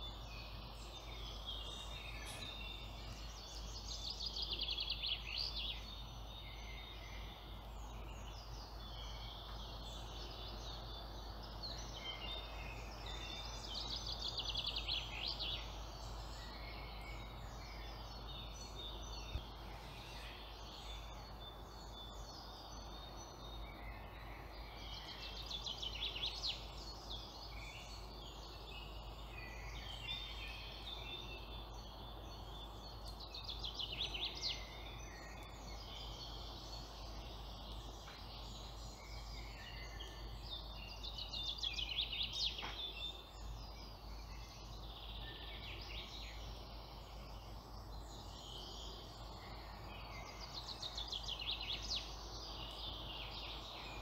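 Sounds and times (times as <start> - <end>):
birds chirping: 0.0 - 54.0
low background noise: 0.0 - 54.0.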